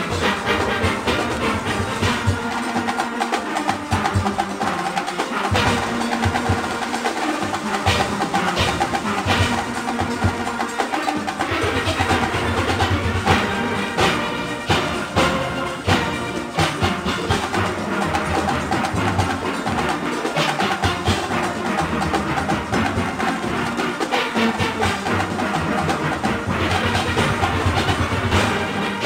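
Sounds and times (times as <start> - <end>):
driving percussion rhythm: 0.0 - 29.0
steelpans playing melody: 0.0 - 29.0.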